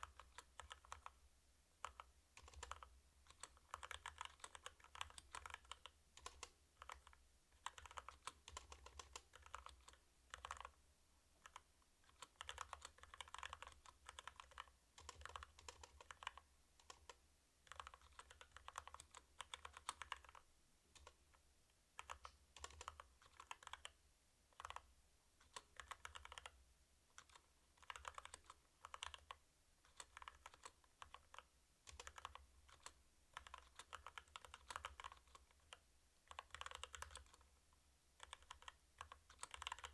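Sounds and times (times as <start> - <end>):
mechanical keyboard typing: 0.0 - 1.2, 1.8 - 10.8, 11.4 - 21.3, 22.0 - 37.5, 38.2 - 39.9.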